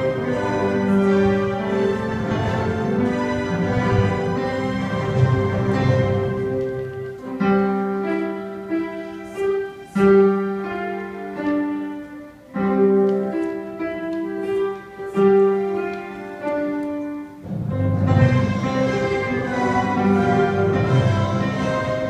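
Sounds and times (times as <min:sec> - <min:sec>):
electronic keyboards and pianos playing: 0:00.0 - 0:22.0.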